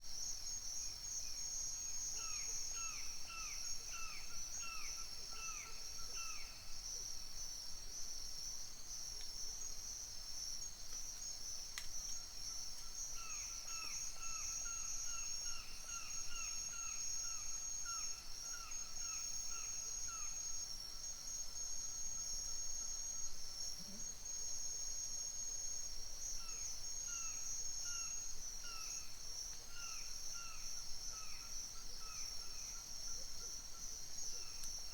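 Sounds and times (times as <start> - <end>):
crickets and insects chorus: 0.0 - 34.9.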